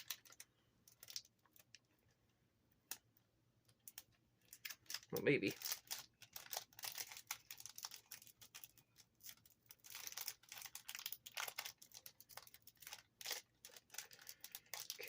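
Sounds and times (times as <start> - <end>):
foil wrapper crinkling: 0.0 - 1.9, 3.8 - 15.0.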